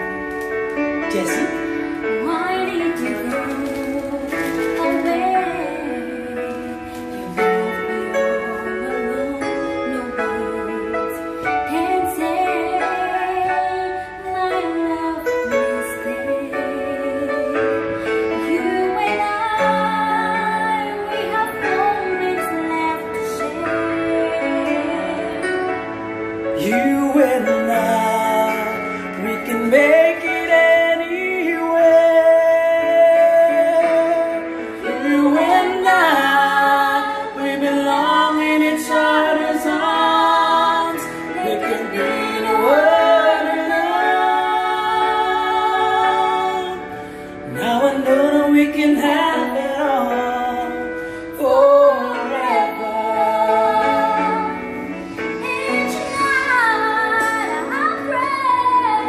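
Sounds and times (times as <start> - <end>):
backing track music: 0.0 - 59.0
woman singing a slow ballad: 1.0 - 25.8, 26.6 - 59.0.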